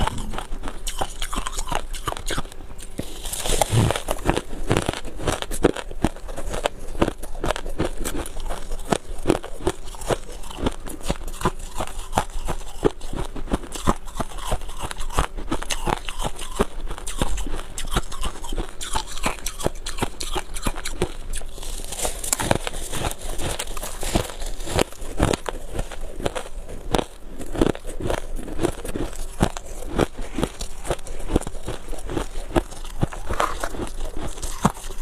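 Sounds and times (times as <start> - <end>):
ice crunching in mouth: 0.0 - 35.0.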